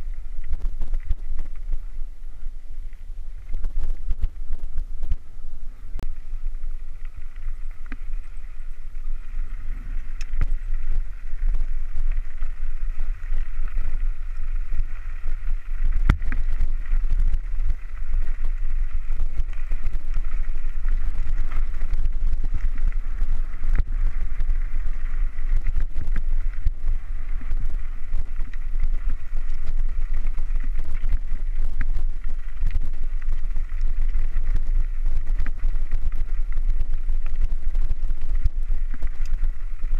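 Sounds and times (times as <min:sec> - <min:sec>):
bike tyres on gravel: 0:00.0 - 0:39.9
wind rumble on microphone: 0:00.0 - 0:39.9.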